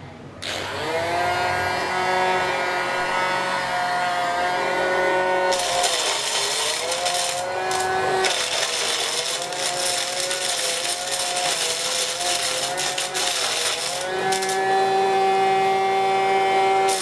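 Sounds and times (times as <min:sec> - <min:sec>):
small electric motor whining: 0:00.4 - 0:17.0.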